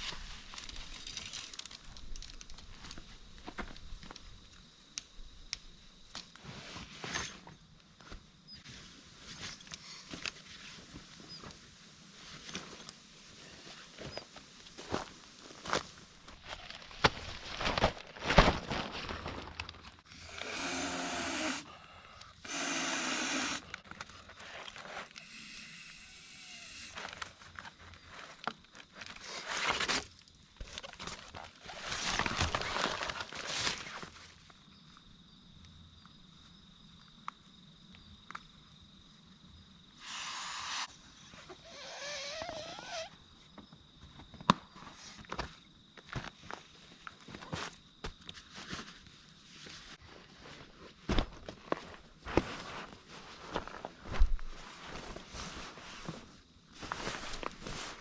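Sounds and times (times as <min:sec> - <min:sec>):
high insect trill: 0:00.0 - 0:50.0.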